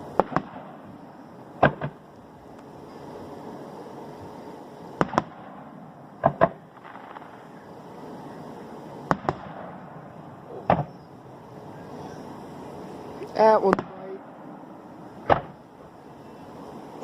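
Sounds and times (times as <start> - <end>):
firework shells bursting: 0.0 - 16.9
steady background hiss: 0.0 - 17.0.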